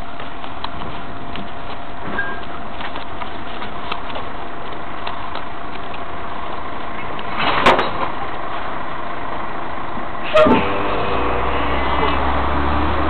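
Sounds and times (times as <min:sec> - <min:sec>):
street noise: 0:00.0 - 0:13.0
truck engine running: 0:00.0 - 0:13.0.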